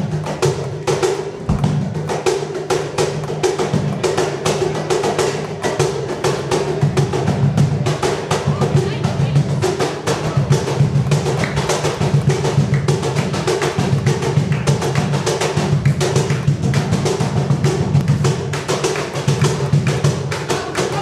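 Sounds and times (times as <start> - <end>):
cajon slaps and strikes: 0.0 - 8.6, 9.8 - 21.0.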